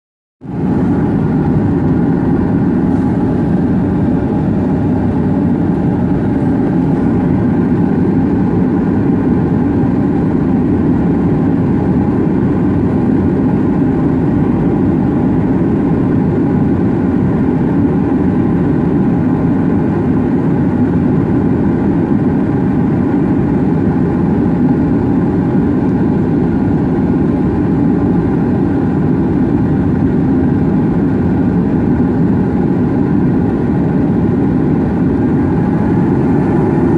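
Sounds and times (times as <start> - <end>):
turboprop engine drone: 0.4 - 36.9.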